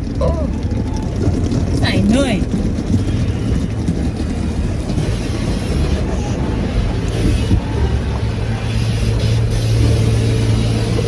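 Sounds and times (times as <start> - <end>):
car wash machinery rumbling: 0.0 - 11.0.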